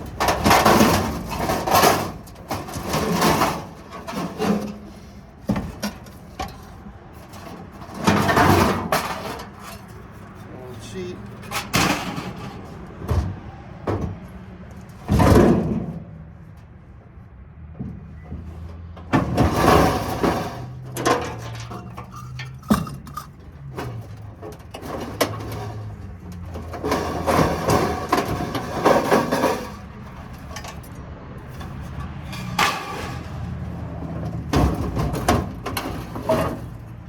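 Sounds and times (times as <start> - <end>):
metal clanking and scraping: 0.0 - 16.7, 17.8 - 37.0.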